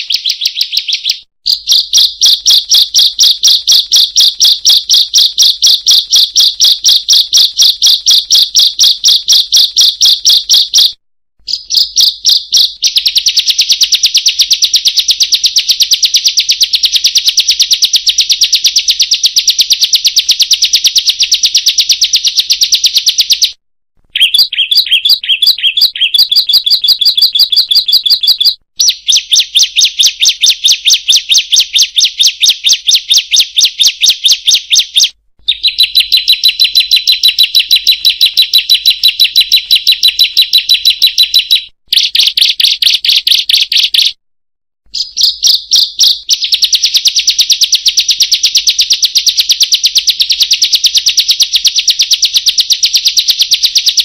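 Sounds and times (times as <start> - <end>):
bird song of rapid high chipping: 0.0 - 44.2, 44.9 - 51.0.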